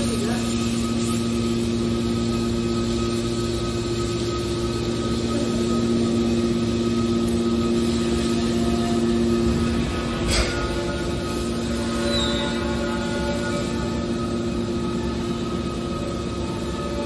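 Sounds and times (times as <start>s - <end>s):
hydraulic motor and pump humming: 0.0s - 17.0s.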